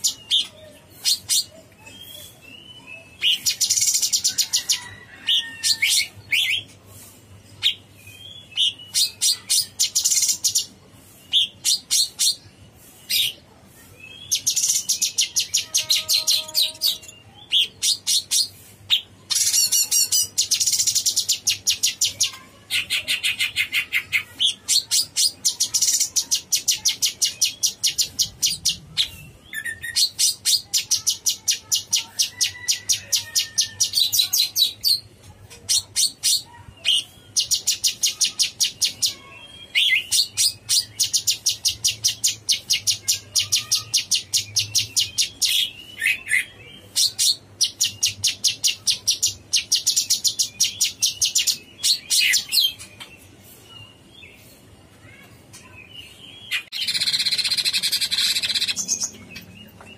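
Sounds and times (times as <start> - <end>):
caged bird singing rapid high notes: 0.0 - 6.8, 7.6 - 53.2, 55.0 - 59.8.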